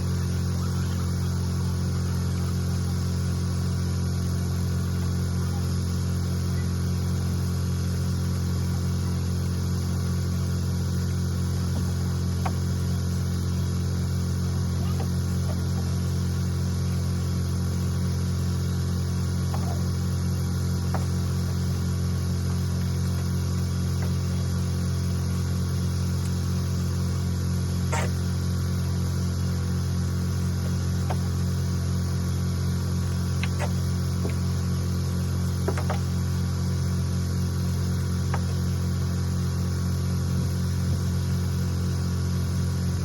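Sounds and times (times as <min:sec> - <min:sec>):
motor humming: 0:00.0 - 0:43.0.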